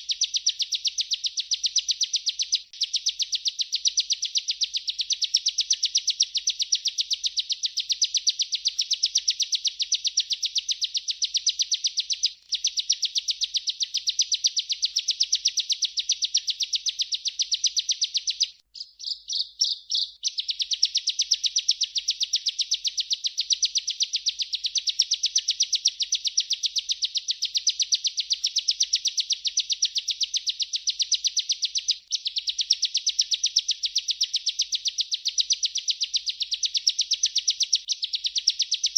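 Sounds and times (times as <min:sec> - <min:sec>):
bird singing rolling trill: 0:00.0 - 0:38.9.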